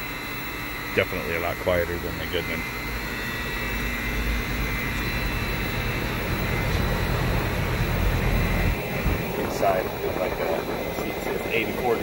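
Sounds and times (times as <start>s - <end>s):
condensing unit humming: 0.0s - 12.0s.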